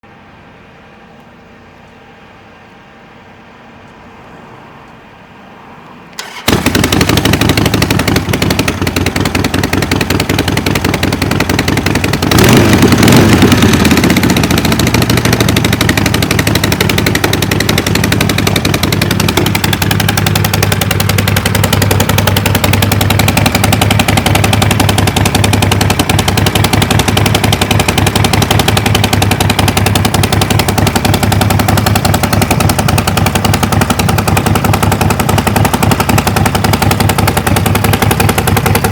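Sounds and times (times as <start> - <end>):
motorcycle engine starting: 6.1 - 38.9
motorcycle engine idling: 6.2 - 38.9.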